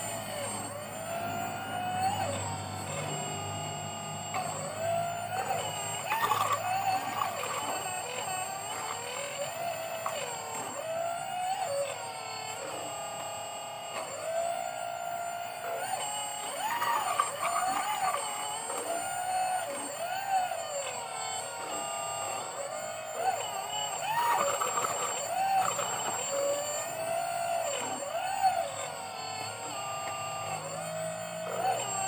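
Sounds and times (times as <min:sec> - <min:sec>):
hydraulic pump whining: 0:00.0 - 0:32.0.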